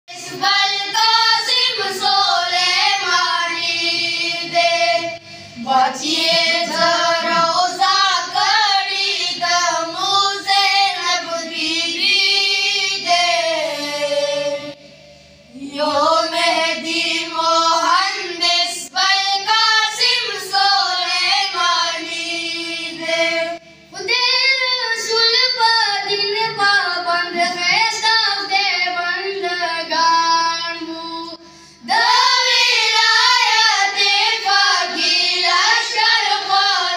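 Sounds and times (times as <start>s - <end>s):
boys singing devotional song: 0.1s - 36.9s.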